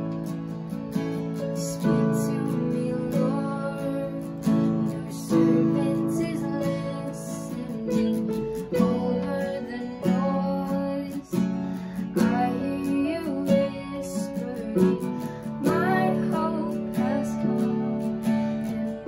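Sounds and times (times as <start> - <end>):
acoustic guitar strumming: 0.0 - 19.0
woman singing: 1.2 - 19.0.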